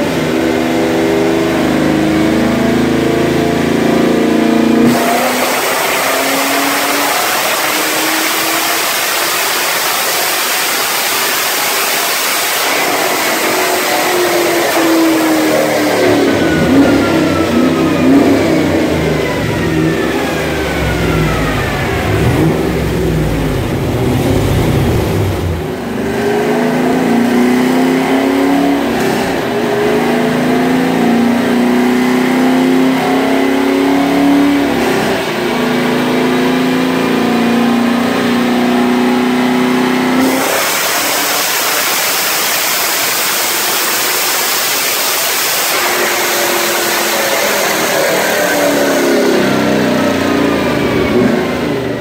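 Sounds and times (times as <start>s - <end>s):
car engine on dyno: 0.0s - 52.0s.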